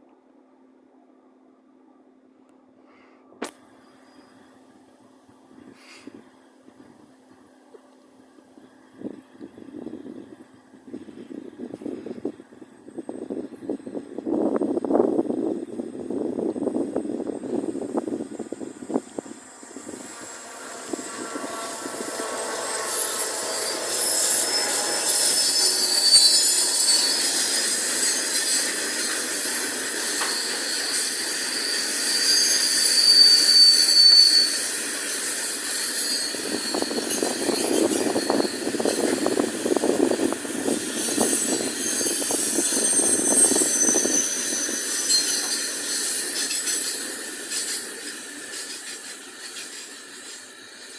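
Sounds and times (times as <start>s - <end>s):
train wheels squealing: 2.9s - 7.6s, 8.4s - 50.9s.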